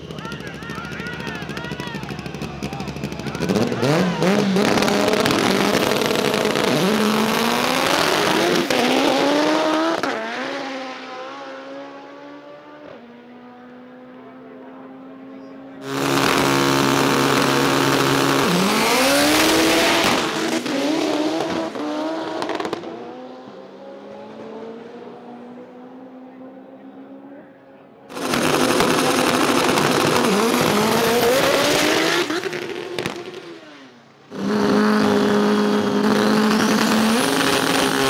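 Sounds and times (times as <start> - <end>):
drag race cars accelerating: 0.0 - 27.3, 28.0 - 38.0.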